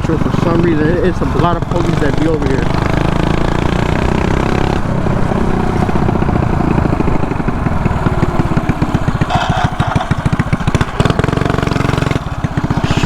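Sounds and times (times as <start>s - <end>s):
mini bike engine running: 0.0s - 13.0s.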